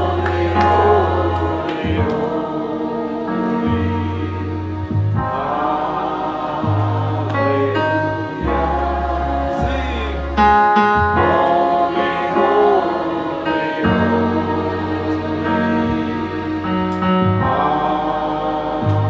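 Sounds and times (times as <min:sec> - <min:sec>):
choir singing gospel music: 0:00.0 - 0:19.0
low bass notes: 0:00.0 - 0:19.0.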